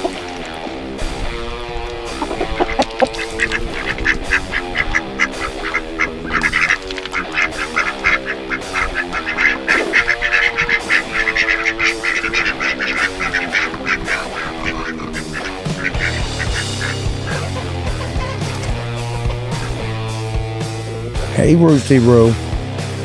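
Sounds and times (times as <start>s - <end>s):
ducks quacking: 0.0s - 23.0s
guitar music: 0.0s - 23.0s.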